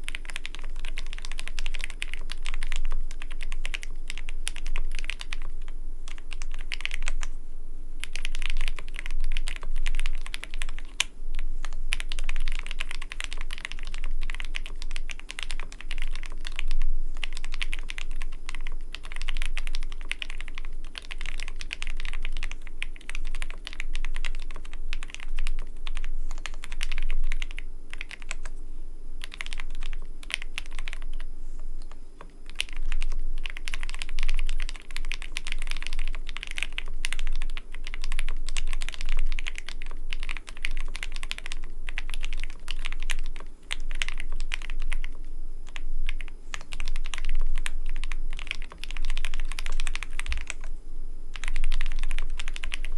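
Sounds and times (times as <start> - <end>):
mechanical keyboard typing: 0.0 - 7.3, 8.0 - 28.5, 29.2 - 50.7, 51.3 - 52.9.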